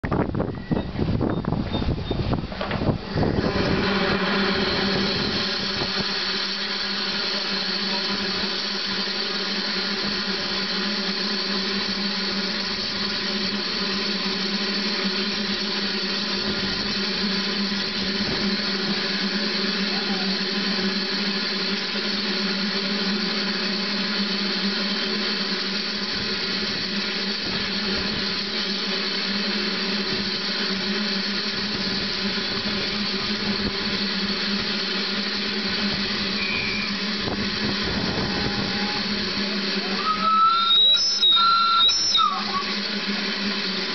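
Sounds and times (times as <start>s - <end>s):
steam hissing: 0.3s - 43.9s.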